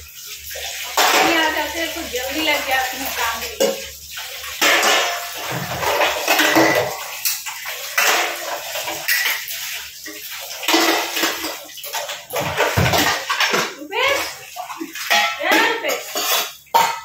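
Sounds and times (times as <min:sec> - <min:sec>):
water splashing and running: 0:00.0 - 0:17.0.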